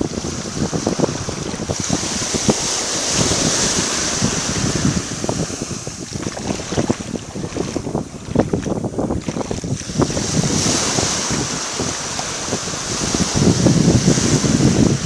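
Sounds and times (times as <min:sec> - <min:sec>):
wave washing up sand: 0:00.0 - 0:15.0
wind buffeting microphone: 0:00.0 - 0:15.0.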